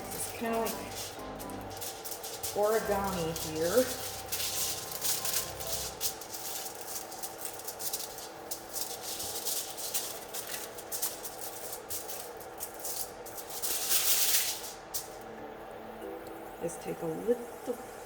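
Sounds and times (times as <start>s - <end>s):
aluminium foil crinkling: 0.0s - 15.2s.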